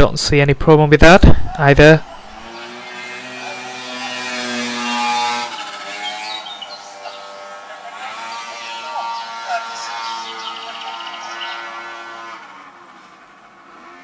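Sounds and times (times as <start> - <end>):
motor-like hum: 1.2 - 14.0.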